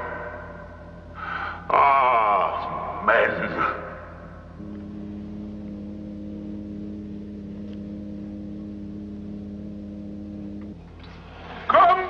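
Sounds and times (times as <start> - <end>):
electronic drone of held tones: 0.0 - 12.0.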